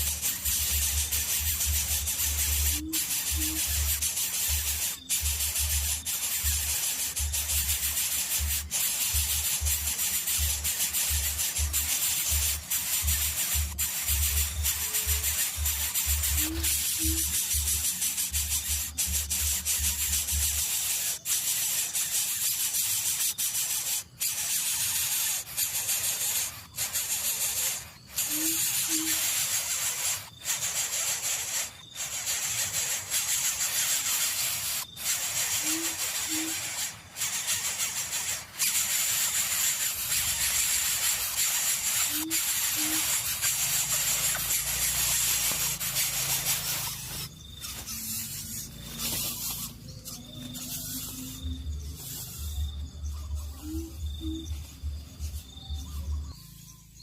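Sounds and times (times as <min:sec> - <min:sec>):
steady loud hiss: 0:00.0 - 0:57.0.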